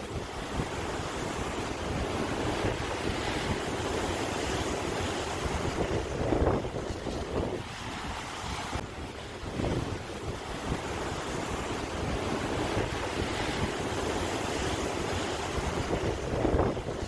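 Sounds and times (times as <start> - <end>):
sea waves washing onto shore: 0.0 - 17.0.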